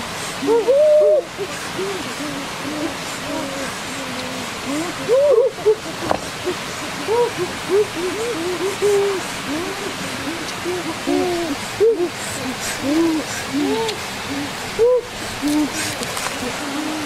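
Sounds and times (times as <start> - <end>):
steady rushing hiss: 0.0 - 17.0
animals hooting: 0.4 - 17.0.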